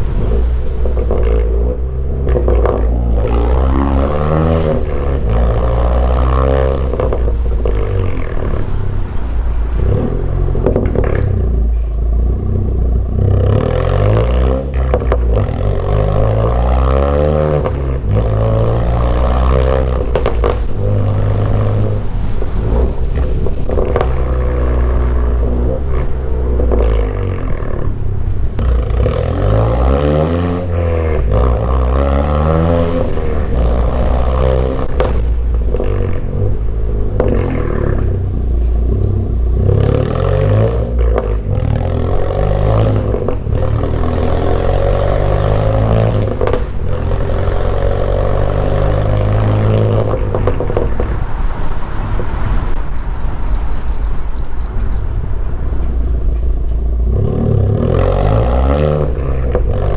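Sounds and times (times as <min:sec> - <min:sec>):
car exhaust accelerating hard: 0:00.0 - 0:59.9.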